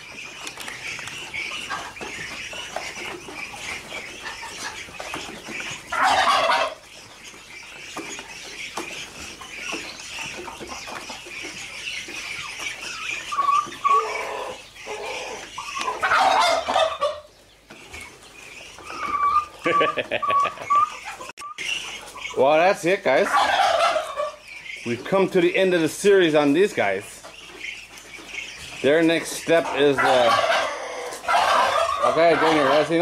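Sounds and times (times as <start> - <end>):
ducklings peeping: 0.0 - 33.0.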